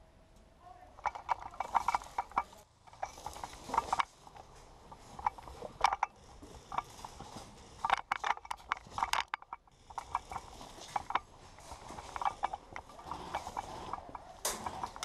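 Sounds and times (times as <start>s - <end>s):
airsoft rifle clicks and rattles: 1.0s - 15.0s.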